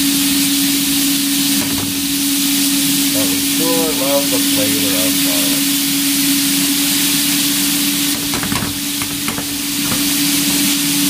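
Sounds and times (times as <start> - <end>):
steady low hum: 0.0 - 11.0
vegetables sizzling in a frying pan: 0.0 - 11.0.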